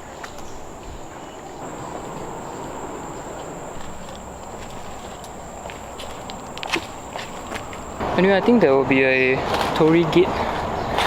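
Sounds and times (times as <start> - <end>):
faint footsteps on trail: 0.0 - 11.0
insects droning: 0.0 - 11.0.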